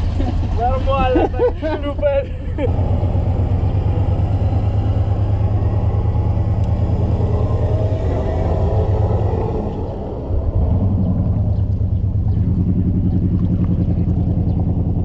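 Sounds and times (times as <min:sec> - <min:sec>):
car engine rumbling under load: 0:00.0 - 0:15.0.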